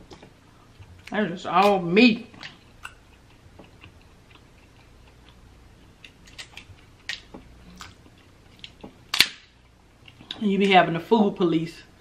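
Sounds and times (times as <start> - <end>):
person chewing: 0.1 - 10.4.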